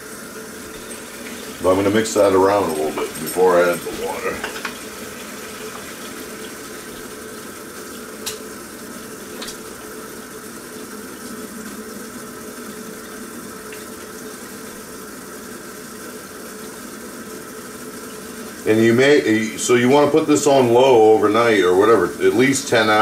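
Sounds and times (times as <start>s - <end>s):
background hum: 0.0s - 23.0s.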